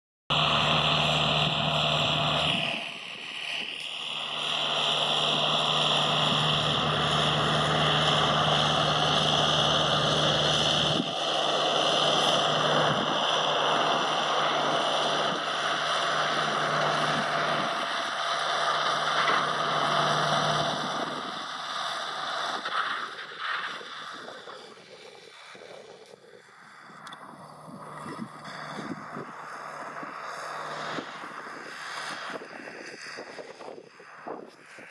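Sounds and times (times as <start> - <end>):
tractor engine running: 0.3 - 34.8.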